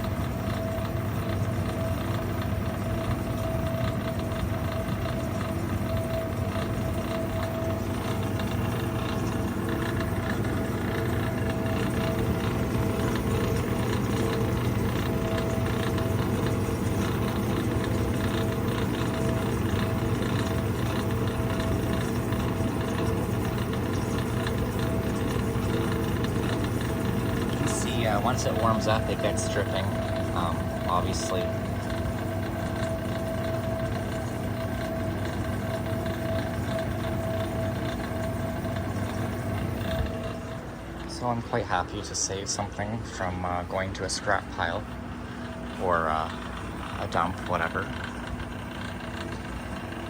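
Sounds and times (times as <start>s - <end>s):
dehumidifier humming: 0.0s - 50.0s
noisy fan: 0.0s - 50.0s.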